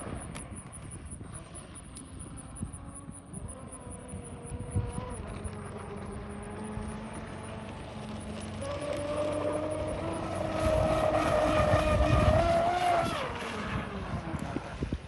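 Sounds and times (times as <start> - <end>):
electric motor whining: 0.0 - 14.8.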